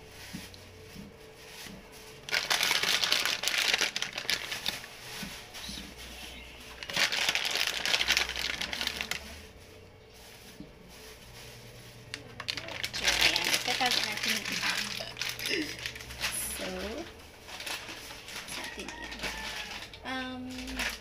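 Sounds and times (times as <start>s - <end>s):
plastic packet crinkling: 1.6s - 9.7s, 11.2s - 21.0s.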